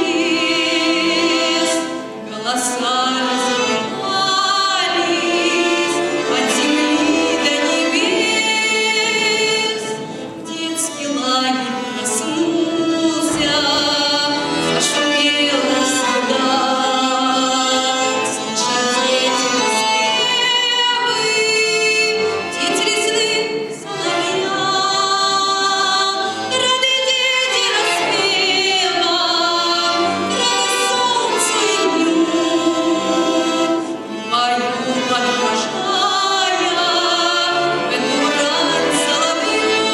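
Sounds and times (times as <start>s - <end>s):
instrumental accompaniment: 0.0s - 39.9s.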